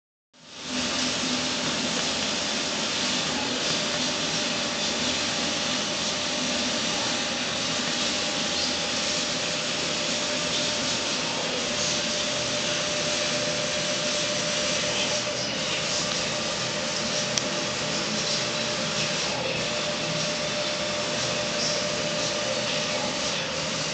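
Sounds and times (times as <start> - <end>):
printer whirring: 0.4 - 23.9.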